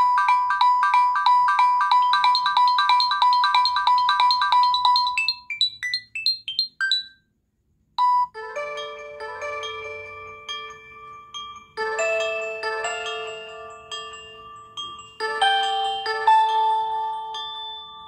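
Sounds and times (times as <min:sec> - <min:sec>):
electronic ringtone beeps: 0:00.0 - 0:07.2, 0:08.0 - 0:18.0.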